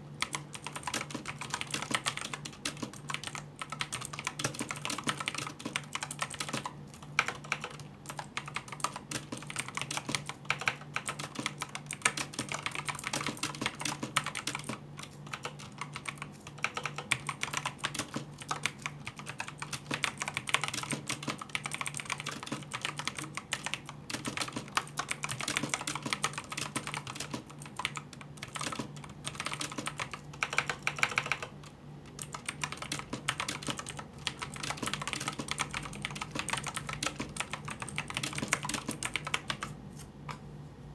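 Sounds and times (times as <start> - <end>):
clicky mechanical keyboard typing: 0.2 - 40.4.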